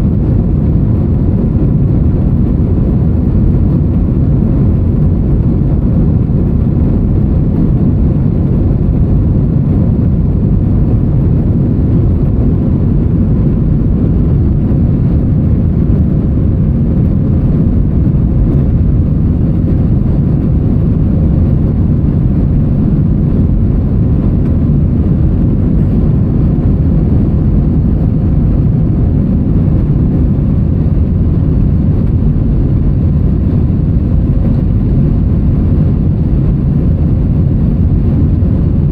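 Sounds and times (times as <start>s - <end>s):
faint steady hum: 0.0s - 38.9s
jet cabin roar: 0.0s - 38.9s.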